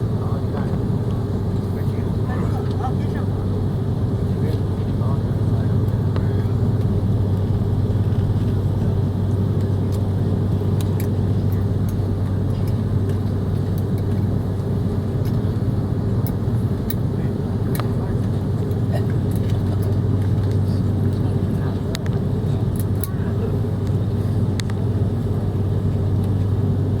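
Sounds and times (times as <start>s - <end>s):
airliner cabin engine hum: 0.0s - 27.0s.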